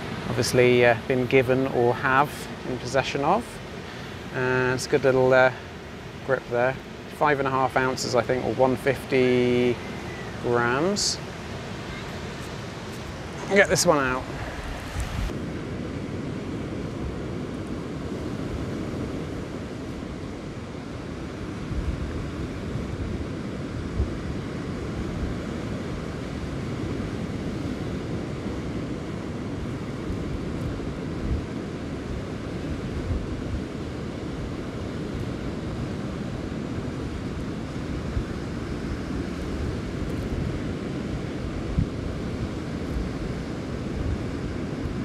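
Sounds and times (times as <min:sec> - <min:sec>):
wind rumbling on microphone: 0:00.0 - 0:45.0.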